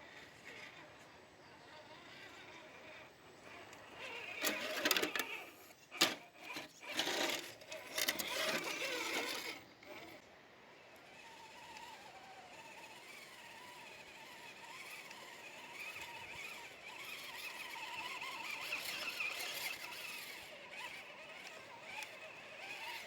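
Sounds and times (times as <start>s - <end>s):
electric motor whining: 0.0s - 10.2s, 10.9s - 23.0s.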